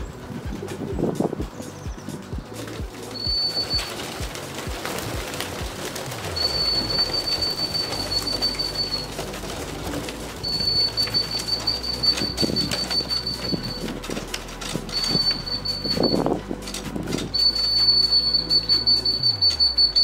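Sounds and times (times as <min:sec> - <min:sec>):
wings flapping: 0:00.0 - 0:20.0
scattered clicks: 0:00.4 - 0:20.0
steady high-pitched tone: 0:02.4 - 0:20.0.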